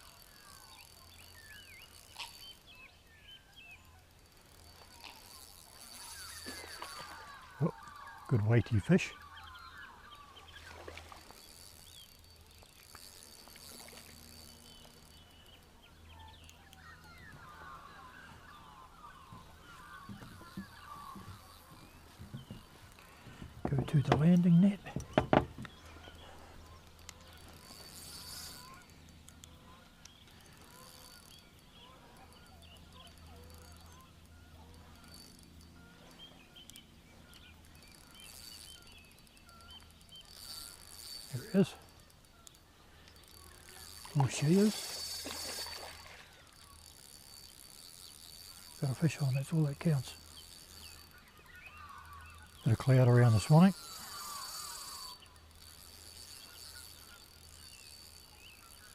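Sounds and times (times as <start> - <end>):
magpies warbling: 0.0 - 25.1, 25.8 - 58.9
low steady hum: 0.0 - 58.9.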